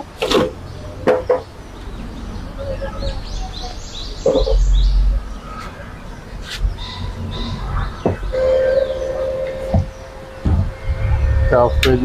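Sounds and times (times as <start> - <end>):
small birds chirping: 0.6 - 12.0
loud low rumble: 1.8 - 12.0.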